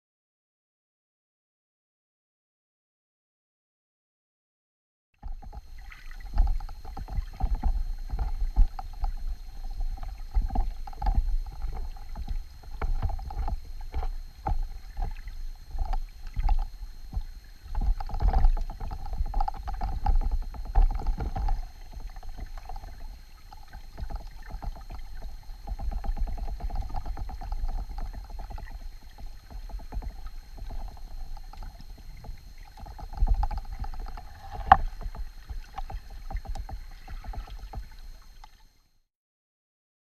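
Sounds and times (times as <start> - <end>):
underwater rumble: 5.2 - 38.6
steady hum: 5.2 - 38.8.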